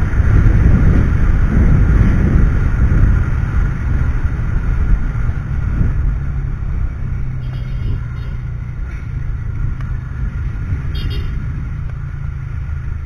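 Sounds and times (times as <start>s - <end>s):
wind buffeting microphone: 0.0s - 12.2s
vehicle engine running: 0.0s - 13.0s.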